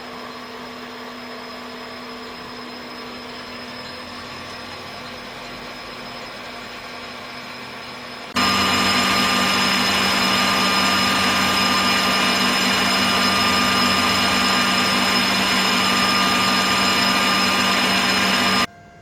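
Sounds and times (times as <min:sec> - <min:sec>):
lathe running with whine: 0:00.0 - 0:18.7.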